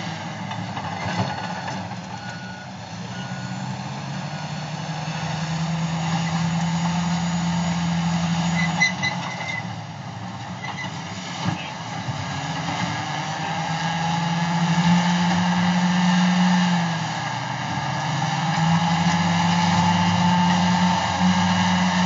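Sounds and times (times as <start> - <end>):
bulldozer diesel engine under load: 0.0 - 22.0.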